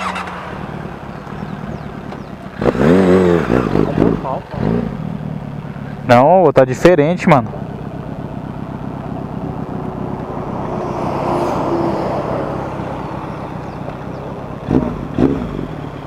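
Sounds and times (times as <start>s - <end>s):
motorcycle engine running: 0.0s - 6.2s, 7.0s - 10.8s, 12.2s - 16.0s
road noise: 0.0s - 16.0s.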